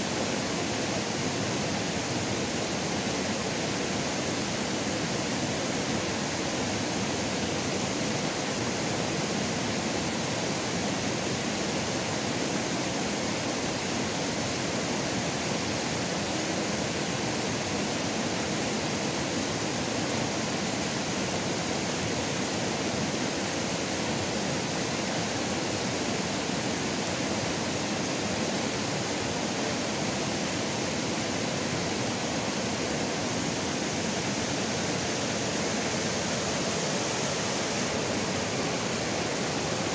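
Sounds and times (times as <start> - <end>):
river rapids rushing over stones: 0.0 - 39.9.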